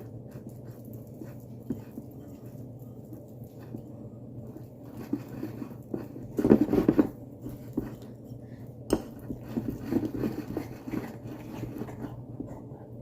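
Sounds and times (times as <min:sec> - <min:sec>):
spoon stirring batter in a mug: 0:00.0 - 0:12.4.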